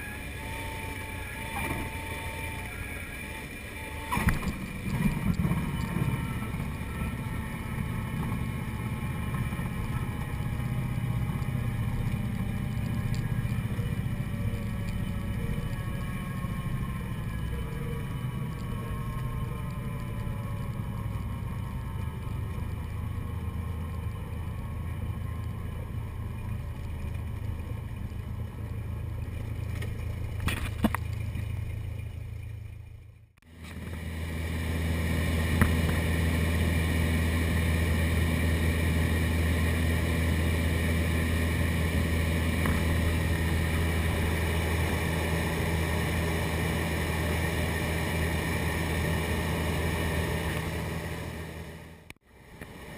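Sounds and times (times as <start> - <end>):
propeller aircraft engine droning: 0.0 - 52.9.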